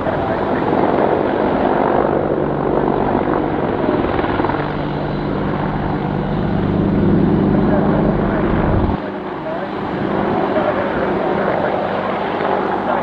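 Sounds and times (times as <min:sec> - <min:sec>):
helicopter rotor and engine drone: 0:00.0 - 0:13.0.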